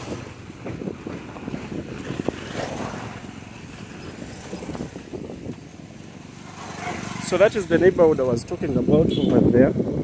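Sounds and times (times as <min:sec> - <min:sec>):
vehicle rumbling on rough road: 0:00.0 - 0:10.0.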